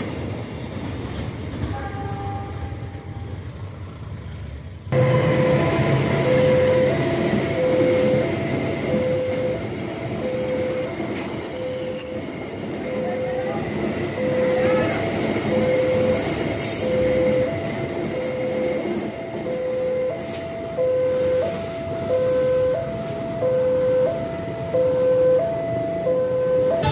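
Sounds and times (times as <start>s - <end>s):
freight train rumbling past: 0.0s - 26.9s
level crossing alarm tones: 5.0s - 26.9s.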